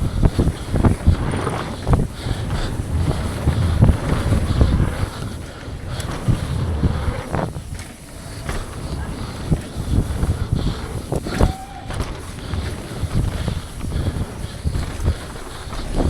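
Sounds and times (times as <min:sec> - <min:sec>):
bike knocks and rattles: 0:00.0 - 0:16.0
tyres rumbling over dirt: 0:00.0 - 0:16.0
wind rushing over microphone: 0:00.0 - 0:16.0.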